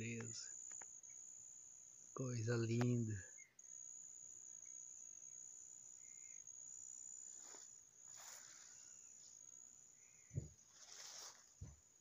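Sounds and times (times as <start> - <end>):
insect trilling: 0.0 - 11.6.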